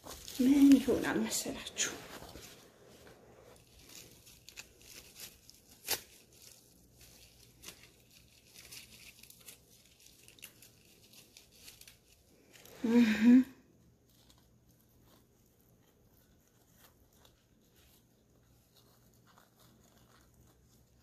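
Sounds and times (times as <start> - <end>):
rustling and crinkling object: 0.0 - 21.0.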